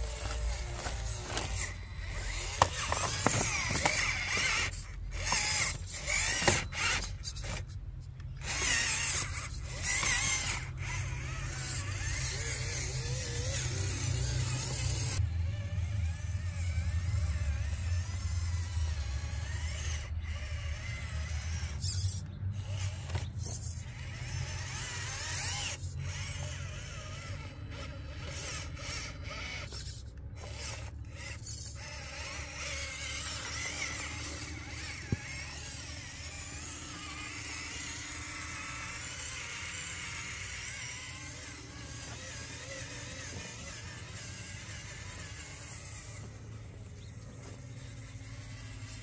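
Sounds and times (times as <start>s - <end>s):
toy truck motor whirring and grinding: 0.0s - 49.0s.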